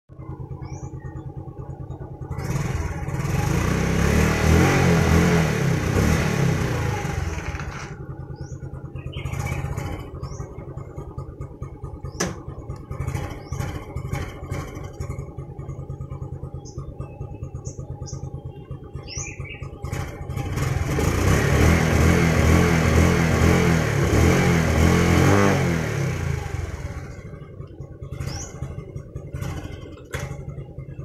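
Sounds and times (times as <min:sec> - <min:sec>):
motorcycle engine idling and revving: 0:00.1 - 0:31.0.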